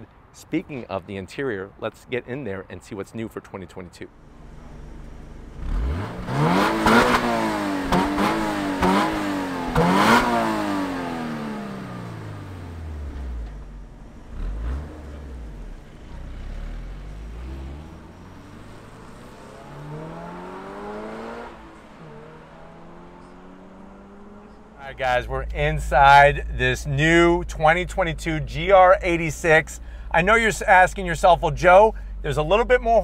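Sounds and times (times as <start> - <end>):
car engine accelerating: 4.2 - 33.0.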